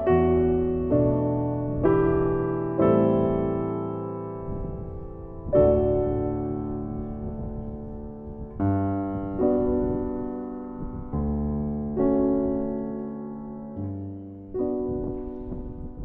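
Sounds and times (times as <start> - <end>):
slow solo piano chords: 0.0 - 16.0.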